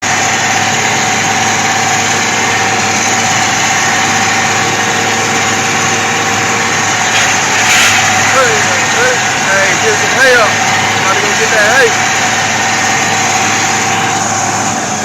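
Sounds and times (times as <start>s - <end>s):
constant whine: 0.0s - 15.0s
vehicle engine running: 0.0s - 15.0s.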